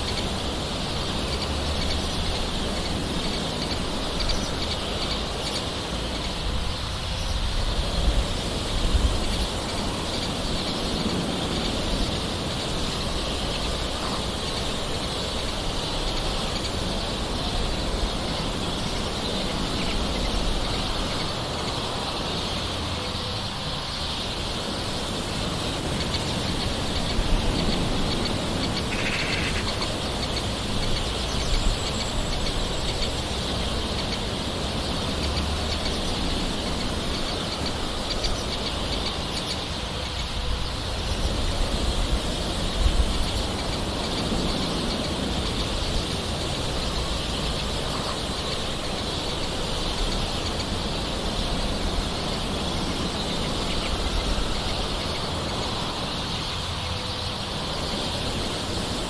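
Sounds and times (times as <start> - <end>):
birds calling: 0.0 - 59.0.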